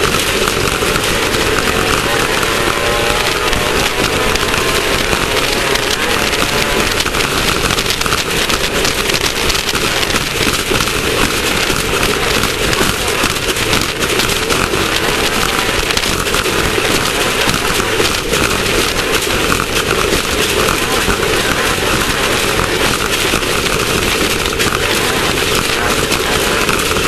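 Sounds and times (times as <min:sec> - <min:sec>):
crackling of dirt hitting car: 0:00.0 - 0:27.0
race car engine: 0:00.0 - 0:27.0
rattling chassis: 0:00.0 - 0:27.0.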